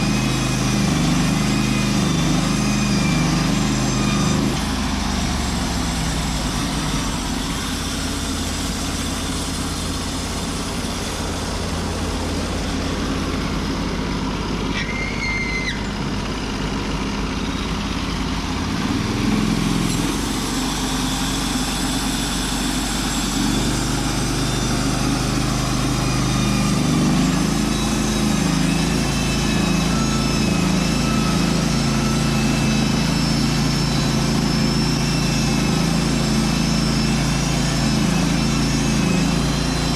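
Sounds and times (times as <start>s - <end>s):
brief high squeal: 0.0s - 12.0s, 14.6s - 16.3s, 17.2s - 18.3s, 19.0s - 39.9s
saw cutting log: 0.0s - 16.0s, 18.4s - 39.9s
sawmill engine running: 0.0s - 39.9s.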